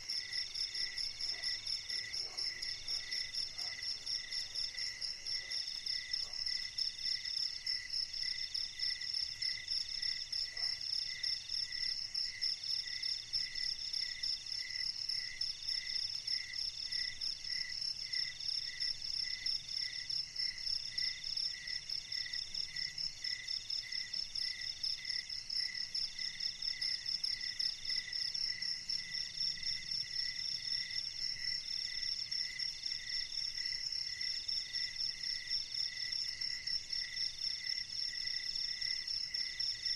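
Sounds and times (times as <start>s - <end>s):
low cricket chirp: 0.0s - 39.9s.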